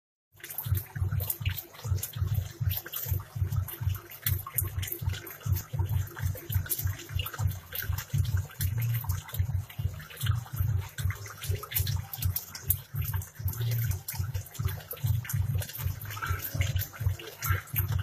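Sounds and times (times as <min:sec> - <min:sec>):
bubbles popping: 0:00.3 - 0:18.0
water gurgling: 0:00.3 - 0:18.0.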